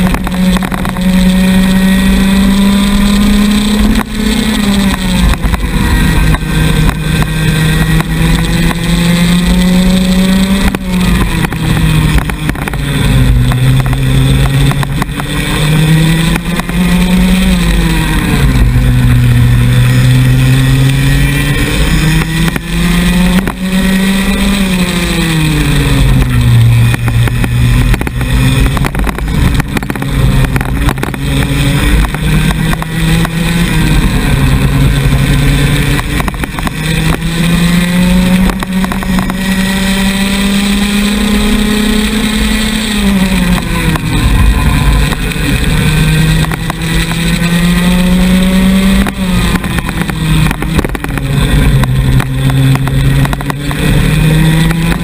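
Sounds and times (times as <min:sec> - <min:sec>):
two-stroke kart engine: 0:00.0 - 0:55.0.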